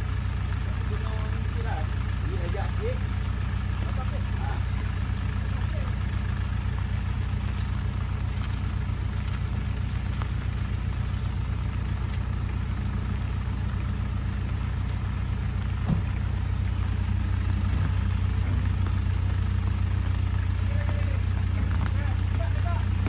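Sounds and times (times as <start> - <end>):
pickup engine idling: 0.0 - 23.0.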